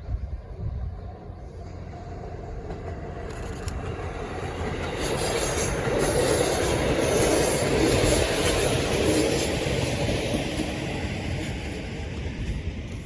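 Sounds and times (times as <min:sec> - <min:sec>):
diesel railcar running on track: 0:00.0 - 0:13.0
wheels on rail: 0:00.0 - 0:13.0.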